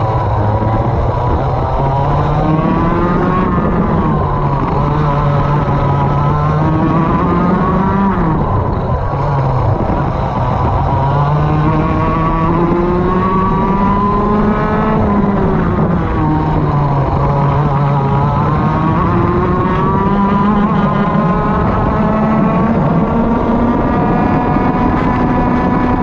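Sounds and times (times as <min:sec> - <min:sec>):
kart engine at full throttle: 0:00.0 - 0:26.0.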